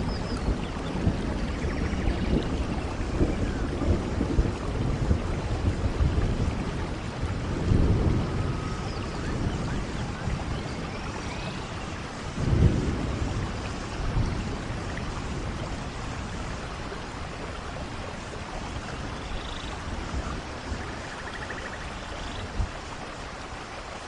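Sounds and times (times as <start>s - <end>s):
low rumble of thunder: 0.0s - 24.0s
steady rain falling: 0.0s - 24.0s.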